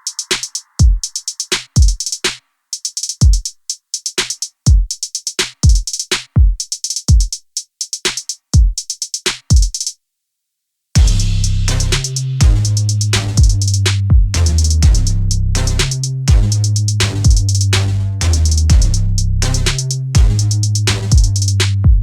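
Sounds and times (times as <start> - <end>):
electronic drum machine beat: 0.0 - 9.9, 11.0 - 22.0
hi-hat ticks: 0.0 - 9.9, 11.0 - 22.0.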